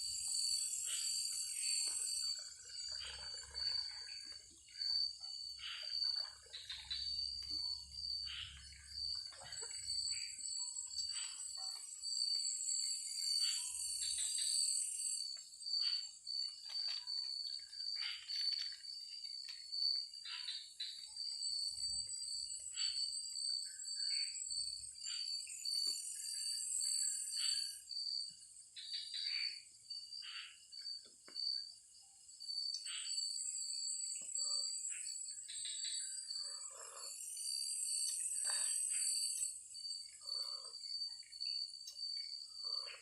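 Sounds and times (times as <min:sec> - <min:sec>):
frogs calling: 0:00.0 - 0:28.2, 0:28.8 - 0:31.0, 0:32.6 - 0:43.0
insects chirping chorus: 0:00.0 - 0:43.0.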